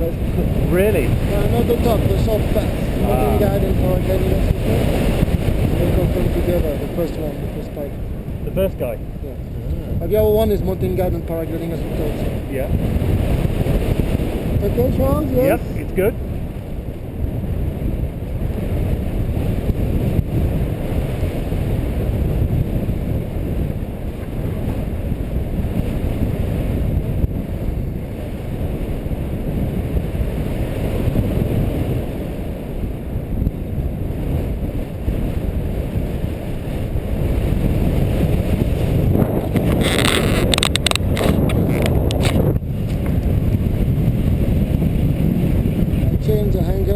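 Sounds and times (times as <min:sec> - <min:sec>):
wind rumbling on microphone: 0:00.0 - 0:46.9.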